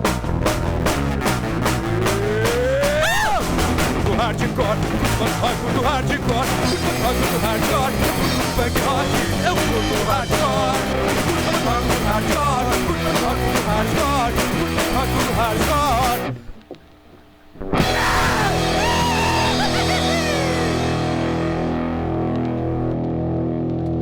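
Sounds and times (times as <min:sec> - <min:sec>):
punk rock music: 0:00.0 - 0:16.6, 0:17.6 - 0:24.0
guitar bending notes: 0:00.0 - 0:16.8, 0:17.5 - 0:24.0.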